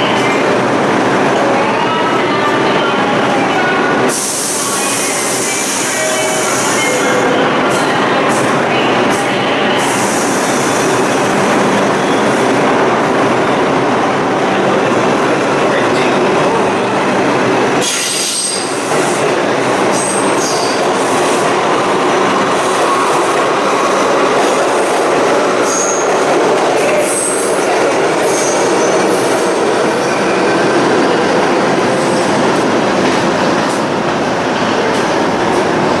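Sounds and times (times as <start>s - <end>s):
subway train wheels rumbling on rails: 0.0s - 36.0s.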